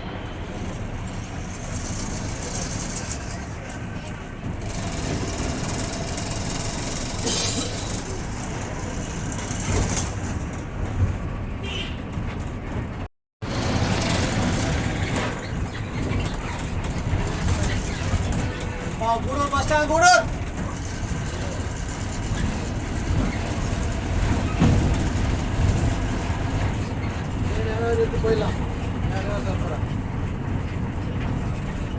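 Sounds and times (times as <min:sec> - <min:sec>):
bus engine rumble: 0:00.0 - 0:31.9
road noise: 0:00.0 - 0:31.9.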